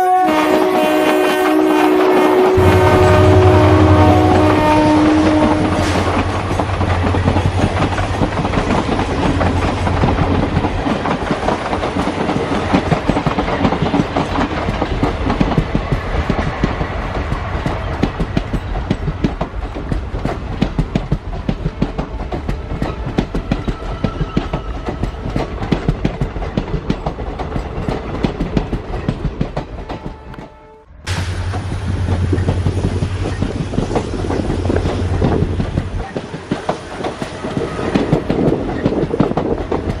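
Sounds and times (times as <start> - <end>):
train wheels clattering over rails: 2.6 - 30.2, 31.1 - 40.0.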